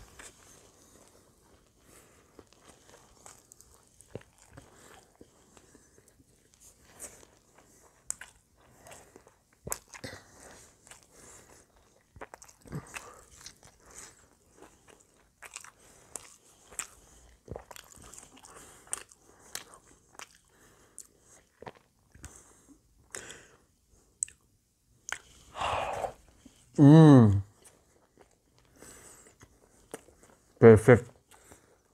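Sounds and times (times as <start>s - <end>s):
chewing fries: 0.0s - 26.7s, 27.4s - 31.9s.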